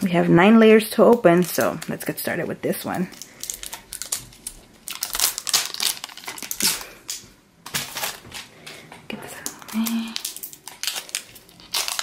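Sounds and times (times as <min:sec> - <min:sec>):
plastic wrapping crackling: 0:01.0 - 0:12.0.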